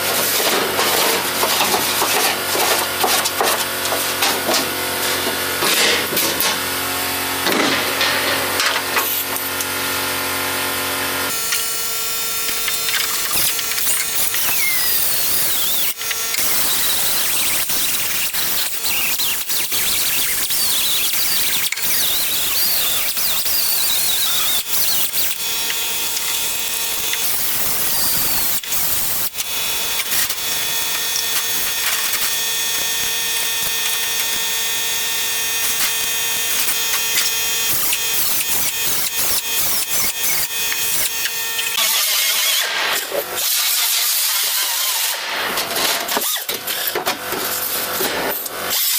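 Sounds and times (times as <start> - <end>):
power tool grinding sheet metal: 0.0 - 48.9.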